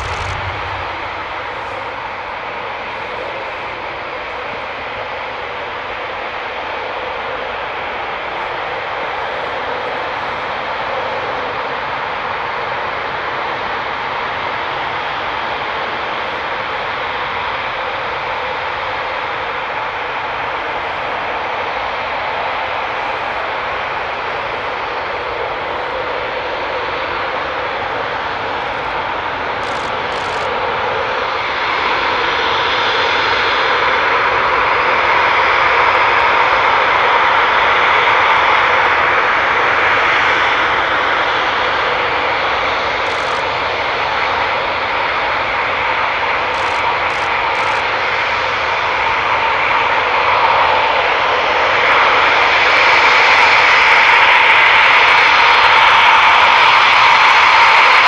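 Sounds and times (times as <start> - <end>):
jet engines whining and rushing: 0.0 - 58.0.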